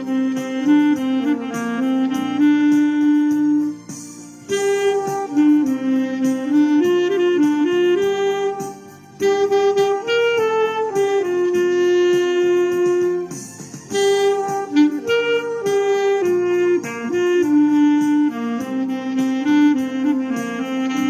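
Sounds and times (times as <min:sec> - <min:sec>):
clarinet melody: 0:00.0 - 0:21.0.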